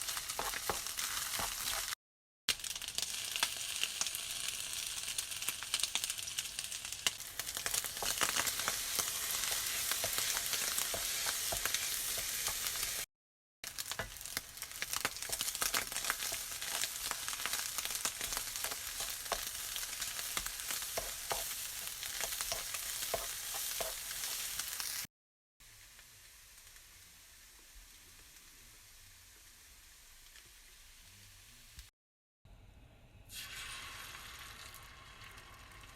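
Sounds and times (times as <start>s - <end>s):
food sizzling in frying pan: 0.0s - 31.9s, 33.3s - 35.9s.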